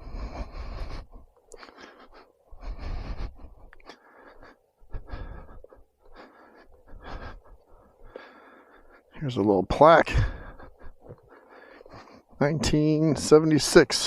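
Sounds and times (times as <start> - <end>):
person breathing: 0.0 - 9.4, 10.0 - 12.4.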